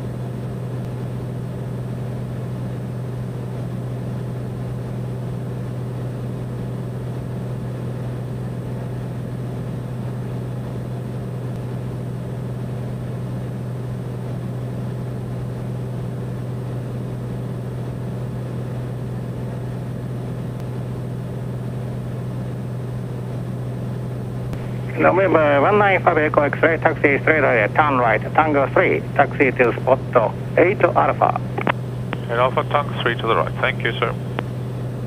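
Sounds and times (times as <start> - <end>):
turboprop engine droning: 0.0 - 35.0.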